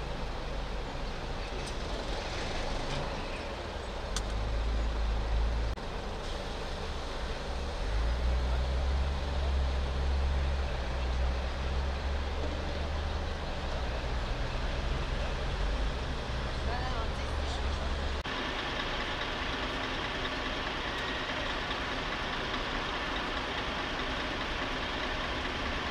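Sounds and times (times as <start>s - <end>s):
vehicle engines rumbling: 0.0s - 25.9s.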